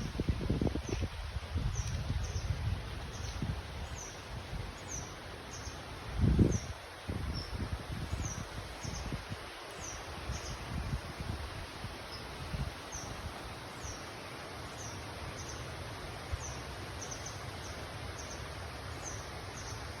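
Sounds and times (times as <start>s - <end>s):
rustling hiss: 0.0s - 20.0s.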